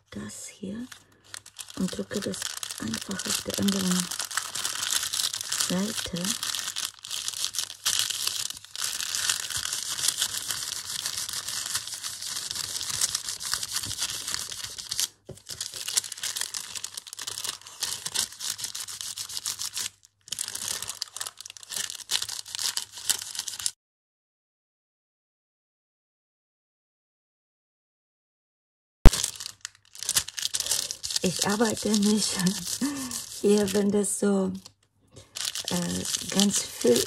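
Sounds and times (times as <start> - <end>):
paper rustling and crinkling: 0.8 - 23.8, 29.1 - 33.9, 34.5 - 37.0.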